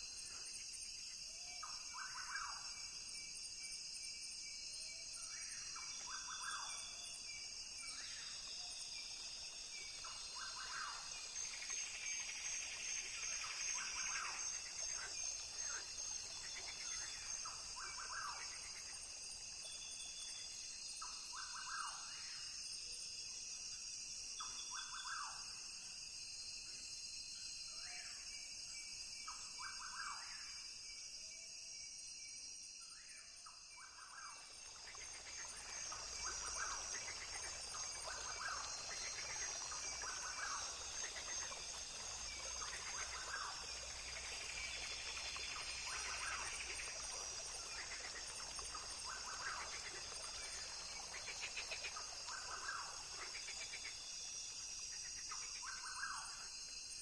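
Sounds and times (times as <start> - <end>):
insect chorus: 0.0 - 57.0.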